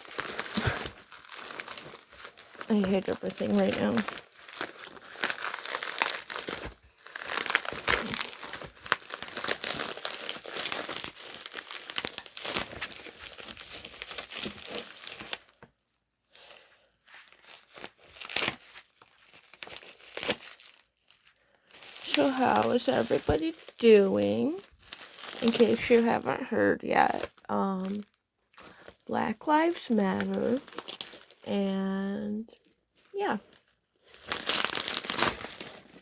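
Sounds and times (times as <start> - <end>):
packaging crinkling: 0.0 - 15.7, 16.4 - 31.6, 32.5 - 36.0.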